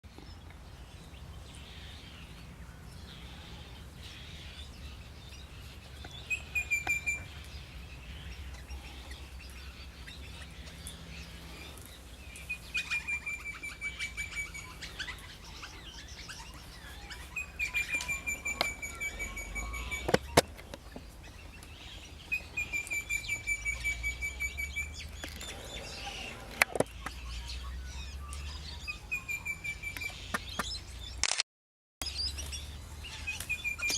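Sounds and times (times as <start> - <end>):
bird chirping: 0.1 - 31.2, 32.0 - 33.9.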